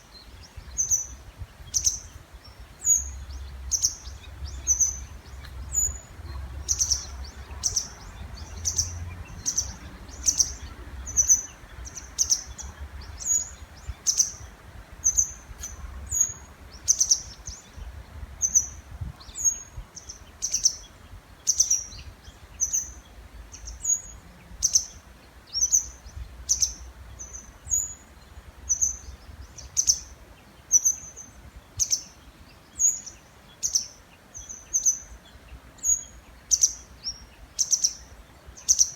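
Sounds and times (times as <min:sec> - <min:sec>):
small songbirds calling: 0:00.0 - 0:38.9.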